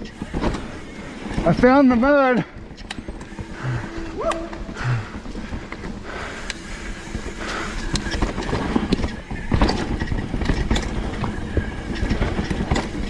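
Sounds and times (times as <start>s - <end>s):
bike rattling: 0.0s - 13.0s
bike tyre noise: 0.0s - 13.0s.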